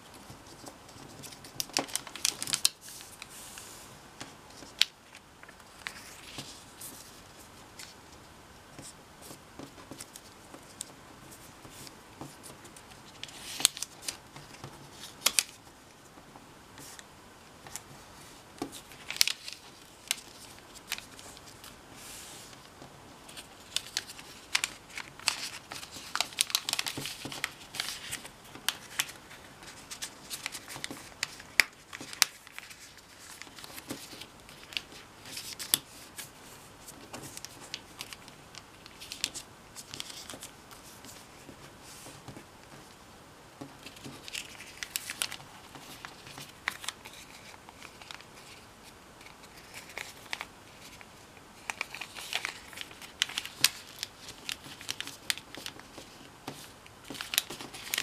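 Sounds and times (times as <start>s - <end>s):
paper crackling and rustling: 0.0s - 16.2s, 17.6s - 43.0s, 43.6s - 58.0s.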